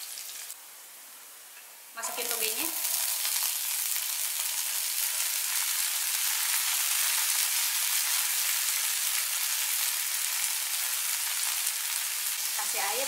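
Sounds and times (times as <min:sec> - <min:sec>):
bean sprouts sizzling in oil: 0:00.0 - 0:13.0.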